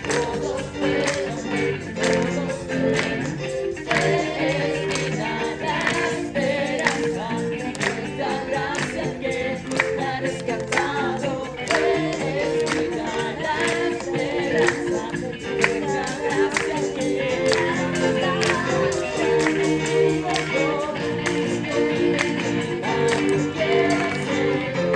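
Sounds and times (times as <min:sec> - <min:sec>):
group singing worship song: 0:00.0 - 0:24.9
instrumental accompaniment: 0:00.0 - 0:24.9.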